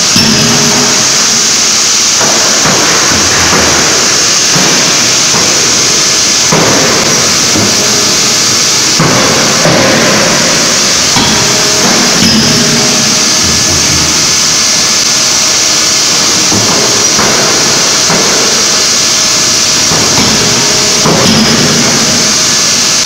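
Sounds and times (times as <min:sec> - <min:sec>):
forging hammer striking metal: 0:00.0 - 0:23.0
loud hiss: 0:00.0 - 0:23.0
shop noise: 0:00.0 - 0:23.0.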